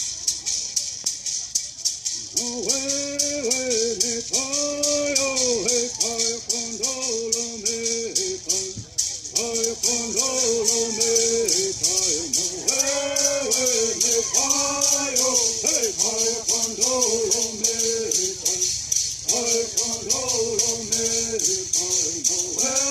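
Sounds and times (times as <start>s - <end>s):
gourd rattles shaken: 0.0s - 22.9s
group singing in unison: 2.4s - 22.9s.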